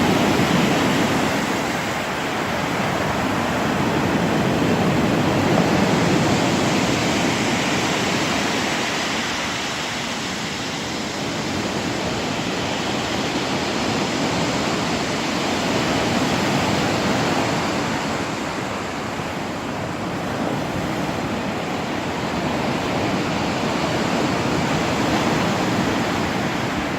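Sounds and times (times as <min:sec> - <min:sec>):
surf washing onto shore: 0:00.0 - 0:26.9.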